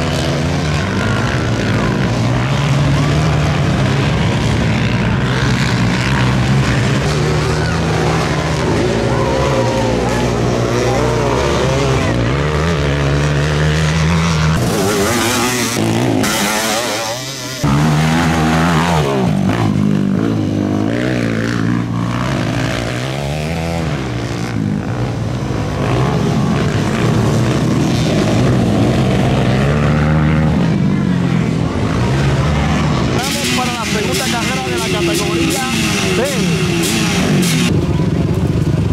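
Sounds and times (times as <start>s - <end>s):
atv engines revving: 0.0s - 38.9s.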